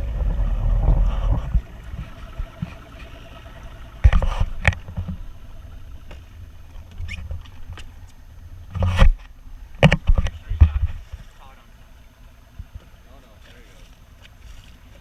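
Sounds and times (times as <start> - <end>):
boat rumble: 0.0 - 15.0
low wind: 0.0 - 15.0.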